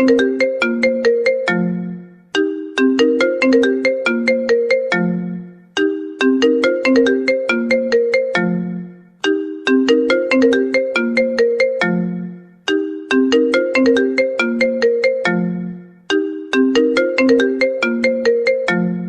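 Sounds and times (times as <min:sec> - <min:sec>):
phone ringtone melody: 0:00.0 - 0:19.0.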